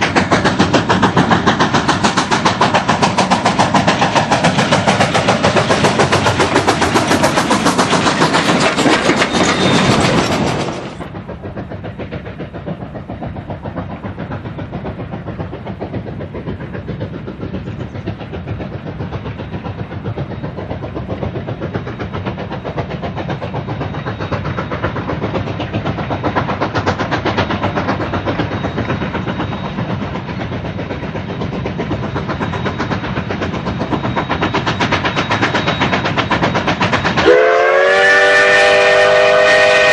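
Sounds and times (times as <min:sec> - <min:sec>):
steam train rattling: 0:00.0 - 0:39.9.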